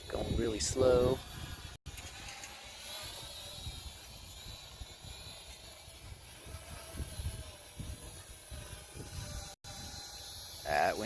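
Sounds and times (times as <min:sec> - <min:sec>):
wind buffeting microphone: 0:00.0 - 0:02.3, 0:03.1 - 0:10.0
quadcopter propellers whining: 0:00.0 - 0:11.0.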